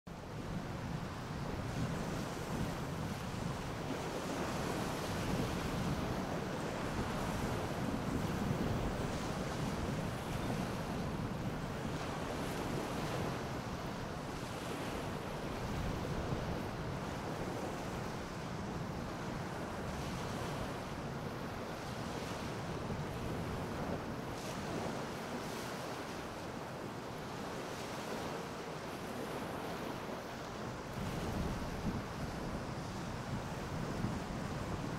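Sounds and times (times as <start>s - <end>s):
small waves washing ashore: 0.1s - 34.9s
wind buffeting microphone: 0.2s - 34.9s.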